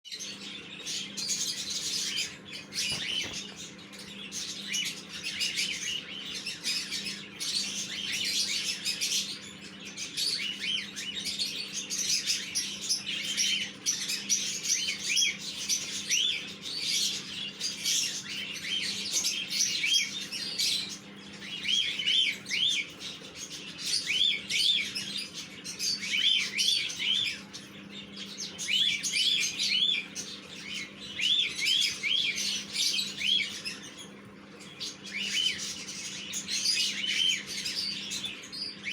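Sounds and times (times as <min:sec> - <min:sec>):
lovebirds chirping: 0:00.1 - 0:38.9.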